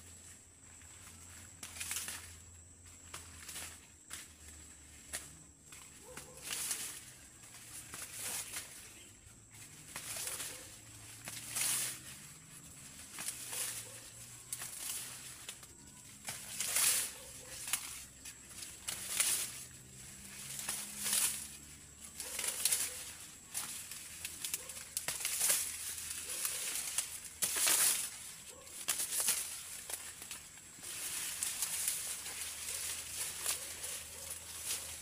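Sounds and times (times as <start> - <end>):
dry maize leaves rustling: 0.0 - 35.0.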